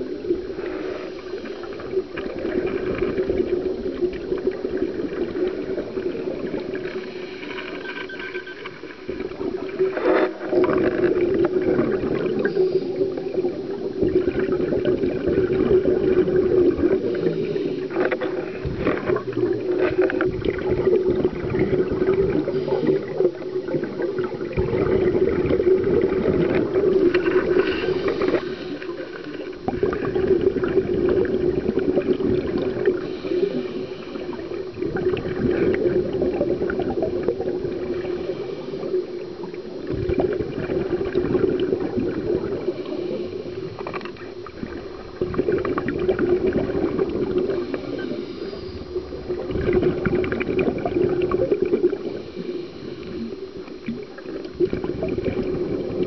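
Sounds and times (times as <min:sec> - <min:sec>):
gurgling bubbles: 0:00.0 - 0:56.0
steady low underwater hum: 0:00.0 - 0:56.0
scattered crackles: 0:00.1 - 0:56.0.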